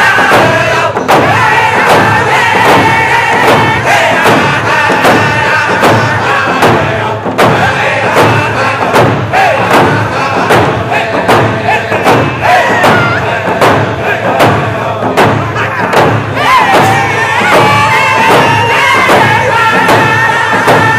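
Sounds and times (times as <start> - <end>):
hand drums beating: 0.0 - 20.9
voices singing together: 0.0 - 20.9.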